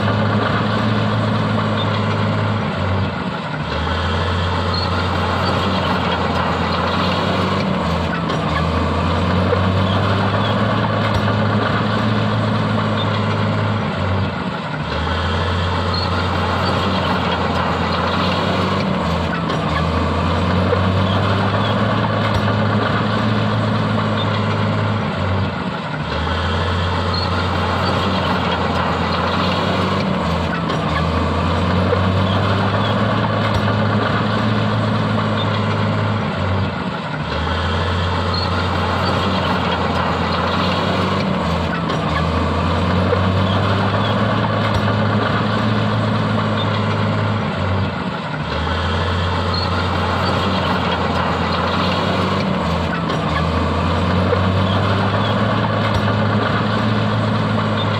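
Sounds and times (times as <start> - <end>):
diesel earthmoving machinery running: 0.0 - 57.9.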